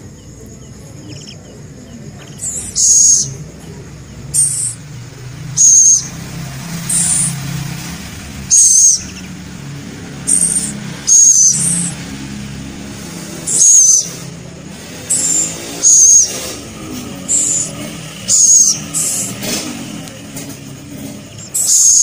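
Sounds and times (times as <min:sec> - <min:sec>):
owl raspy calls: 0:00.2 - 0:22.0.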